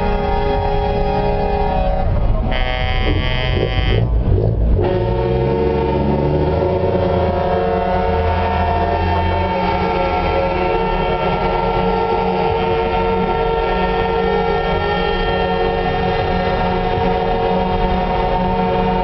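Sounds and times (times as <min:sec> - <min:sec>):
diesel engine rumble: 0:00.0 - 0:19.0
truck air horns: 0:00.0 - 0:19.0.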